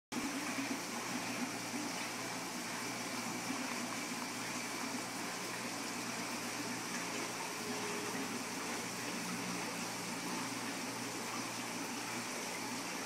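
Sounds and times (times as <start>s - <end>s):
filter pump hum: 0.1s - 13.0s
running water: 0.1s - 13.0s.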